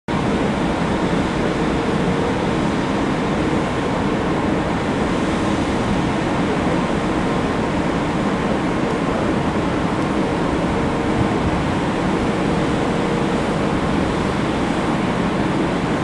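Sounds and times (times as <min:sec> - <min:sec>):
propeller churned water rushing: 0:00.1 - 0:16.0
ship engines rumbling: 0:00.1 - 0:16.0.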